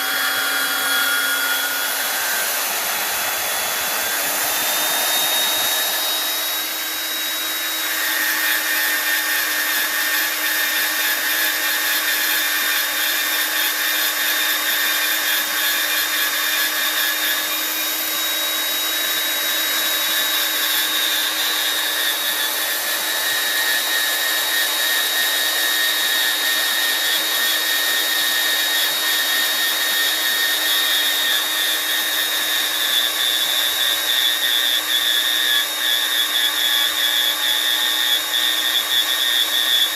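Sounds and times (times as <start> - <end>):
bandsaw cutting metal tubing: 0.0 - 39.9.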